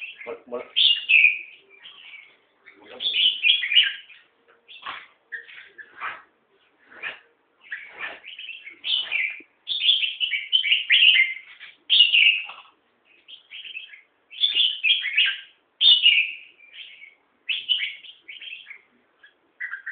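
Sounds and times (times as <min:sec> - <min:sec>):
bird singing warbled phrases: 0:00.0 - 0:19.9.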